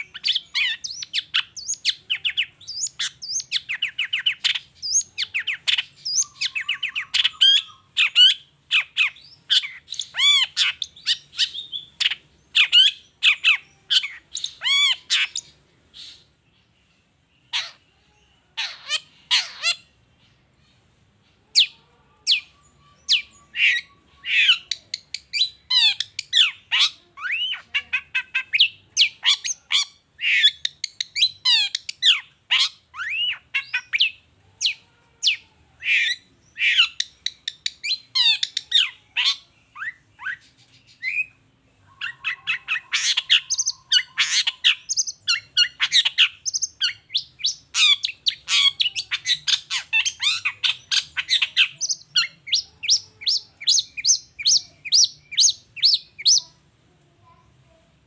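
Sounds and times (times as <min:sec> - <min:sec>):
bird singing chirps and squawks: 0:00.0 - 0:56.6.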